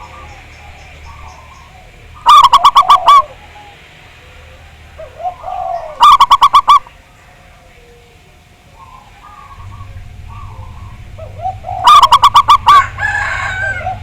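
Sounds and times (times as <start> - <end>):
doves cooing: 0.0 - 14.0
faint coos of other doves: 0.0 - 14.0.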